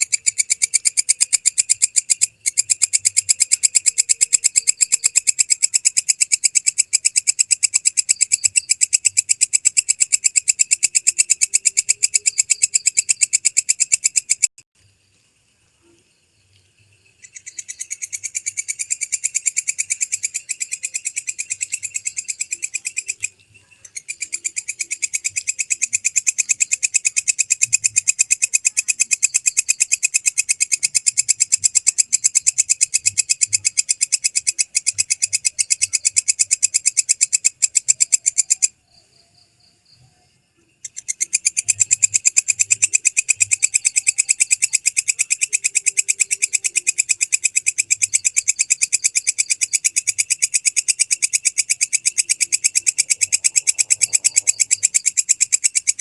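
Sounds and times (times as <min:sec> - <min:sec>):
bush cricket clicking song: 0:00.0 - 0:56.0.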